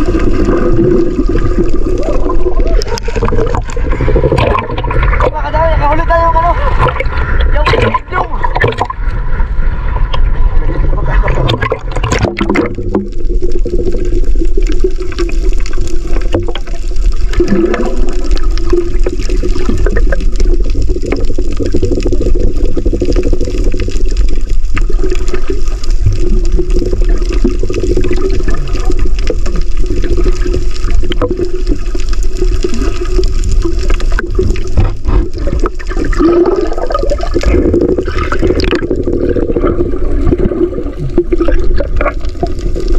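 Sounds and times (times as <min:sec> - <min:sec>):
underwater rushing and bubbling: 0:00.0 - 0:42.9.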